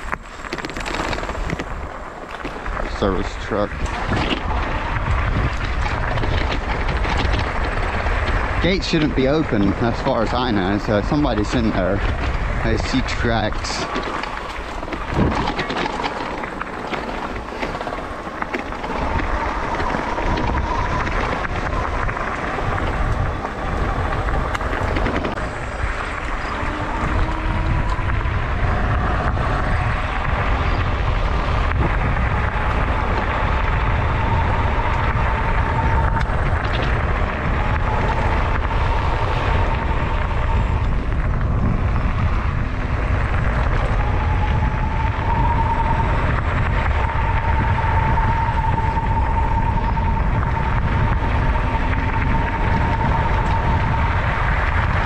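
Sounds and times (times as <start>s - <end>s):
electric motor whine: 0.0s - 55.0s
road noise: 0.0s - 55.0s
wind buffeting microphone: 0.0s - 55.0s.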